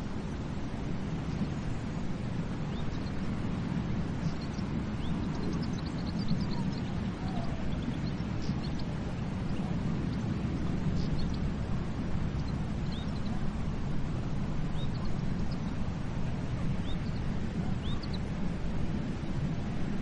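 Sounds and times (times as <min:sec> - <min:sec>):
surf rumbling on a beach: 0:00.0 - 0:20.0.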